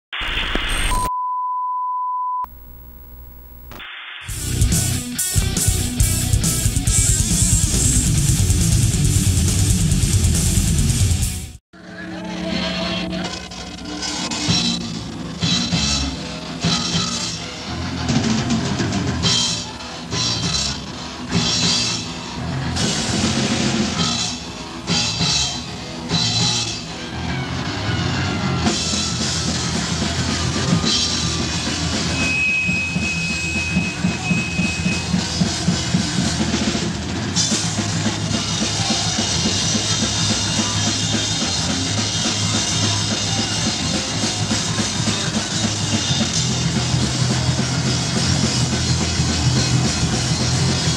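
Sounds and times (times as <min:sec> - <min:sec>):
heavy metal band playing: 0:04.3 - 0:50.9.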